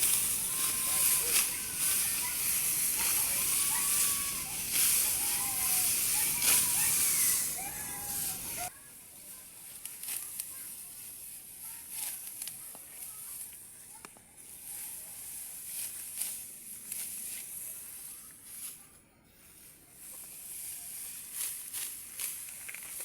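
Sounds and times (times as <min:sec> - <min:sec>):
dry rice stalks rustling: 0:00.0 - 0:23.0.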